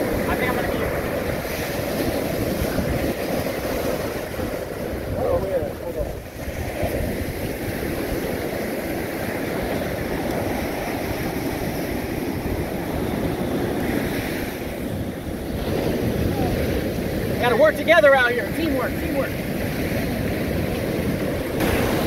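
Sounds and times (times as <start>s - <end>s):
ocean surf breaking on sand: 0.0s - 22.0s.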